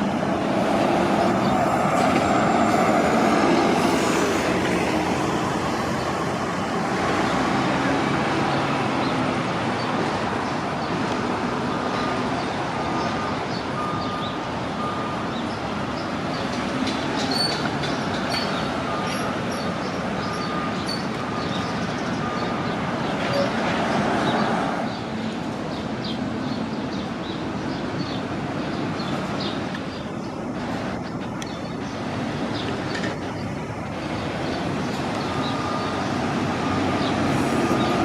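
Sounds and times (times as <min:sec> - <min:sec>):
heavy vehicles rumbling: 0:00.0 - 0:38.0.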